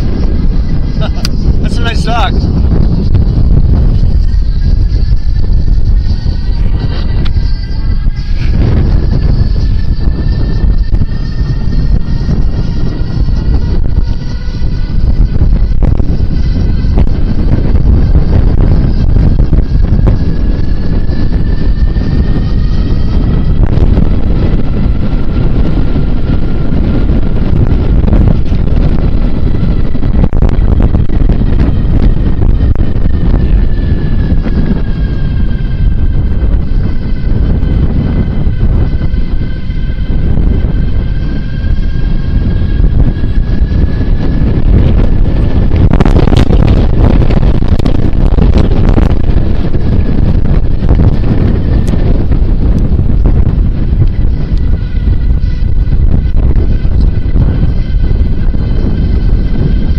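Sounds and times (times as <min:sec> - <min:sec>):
faint steady whine: 0:00.0 - 0:59.9
wind buffeting microphone: 0:00.0 - 0:59.9.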